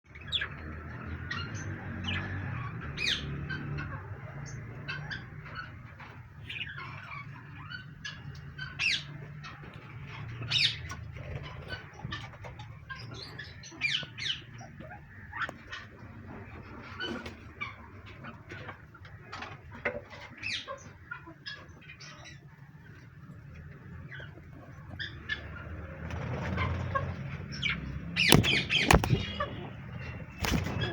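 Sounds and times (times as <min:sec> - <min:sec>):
birds chirping and whistling: 0:00.1 - 0:03.8, 0:04.4 - 0:17.9, 0:20.1 - 0:23.2, 0:26.5 - 0:30.9.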